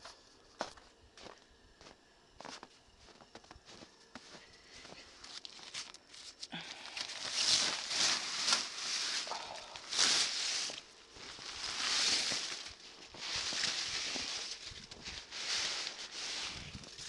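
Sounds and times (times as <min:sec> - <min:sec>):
footsteps crunching through snow: 0:00.0 - 0:17.0.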